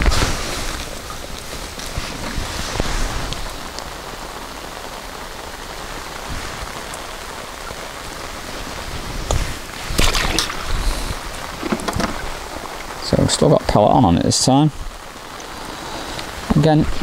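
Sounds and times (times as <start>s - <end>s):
rain on an umbrella: 0.0s - 17.0s.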